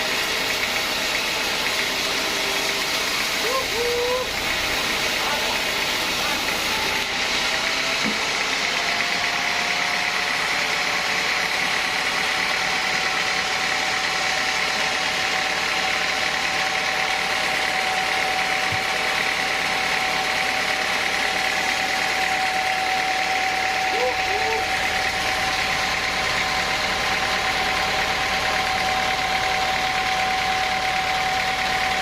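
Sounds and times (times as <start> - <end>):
sawmill saw whining: 0.0 - 32.0.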